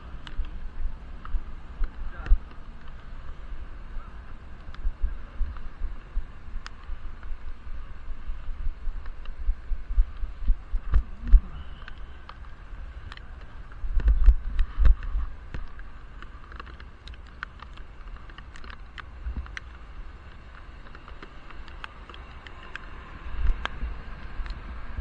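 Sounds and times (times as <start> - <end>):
muffled wind and road rumble: 0.0 - 25.0
raindrops ticking on case: 0.1 - 24.7.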